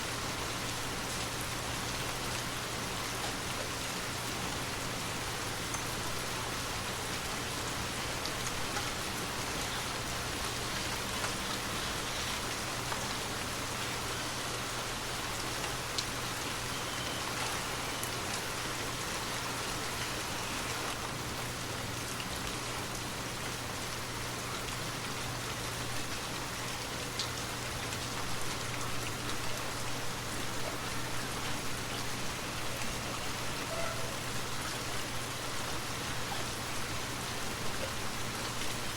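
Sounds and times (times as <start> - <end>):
light rain pattering: 0.0 - 38.9.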